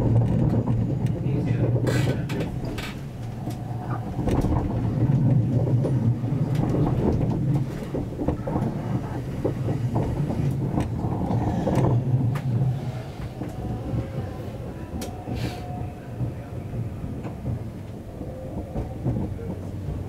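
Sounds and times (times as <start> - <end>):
train rumble inside carriage: 0.0 - 20.0
wheels clicking on rails: 0.0 - 20.0.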